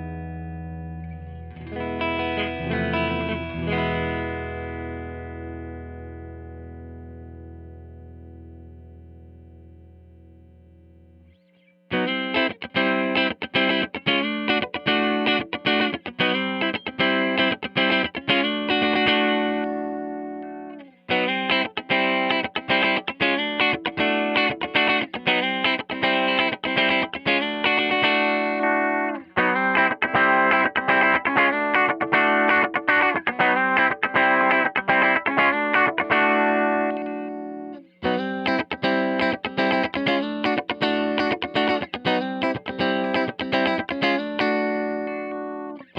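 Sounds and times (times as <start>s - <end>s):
clean electric guitar picking: 0.0s - 45.9s.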